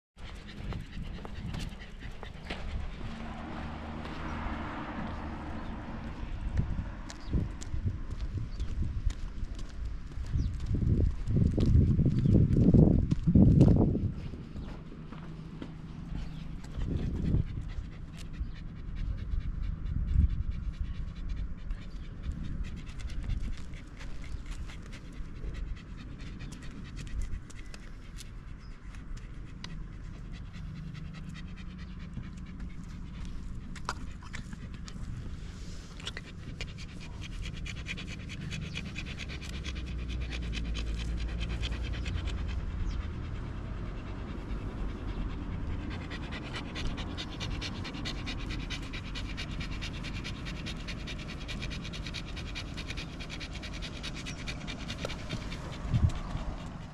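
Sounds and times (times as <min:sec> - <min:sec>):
dog panting: 0:00.2 - 0:56.9.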